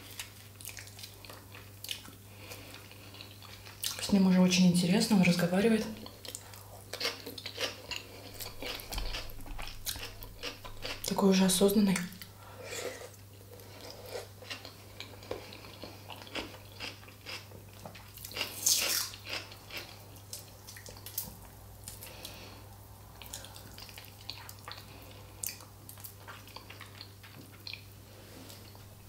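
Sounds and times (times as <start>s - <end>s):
person chewing with wet smacks: 0.0s - 4.1s, 6.0s - 11.2s, 13.1s - 22.4s, 23.1s - 28.8s.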